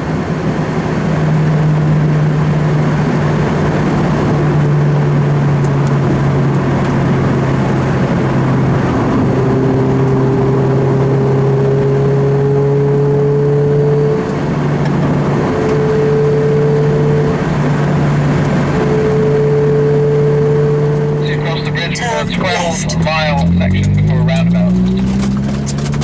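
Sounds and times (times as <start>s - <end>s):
road and wind noise: 0.0s - 26.0s
car engine pulling: 0.1s - 26.0s.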